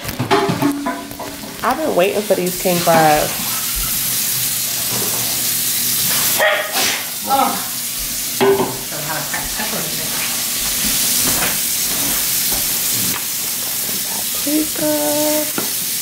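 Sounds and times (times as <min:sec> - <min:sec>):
scallops sizzling in oil: 0:00.2 - 0:16.0.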